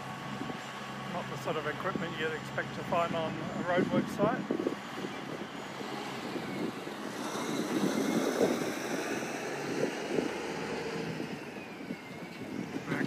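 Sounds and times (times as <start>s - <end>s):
wind on microphone: 0.0s - 0.8s, 2.9s - 13.0s
truck engine and tyre rumble: 0.0s - 13.0s.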